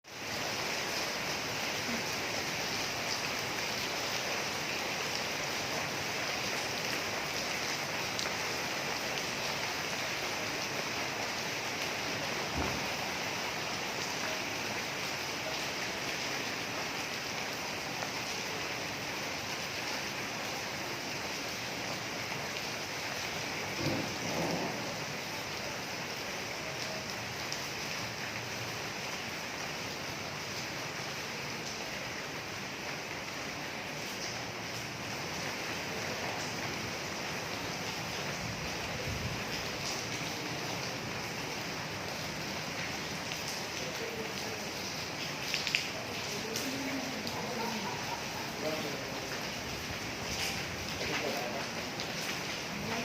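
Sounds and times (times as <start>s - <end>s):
rain falling steadily: 0.0s - 53.0s.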